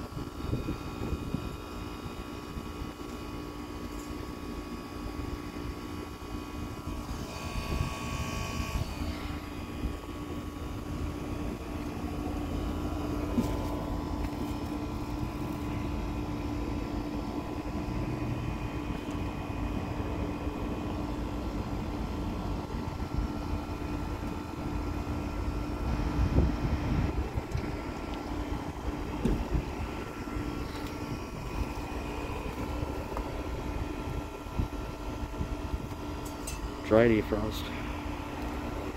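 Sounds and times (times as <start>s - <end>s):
heat pump mechanical hum: 0.0s - 38.9s.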